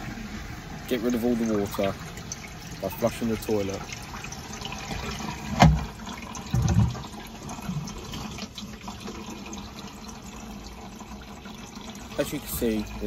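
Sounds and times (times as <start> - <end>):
water running in cistern: 0.0 - 13.0.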